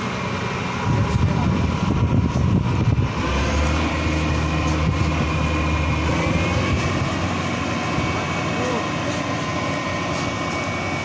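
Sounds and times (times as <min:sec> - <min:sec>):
combine harvester drone and whine: 0:00.0 - 0:11.0.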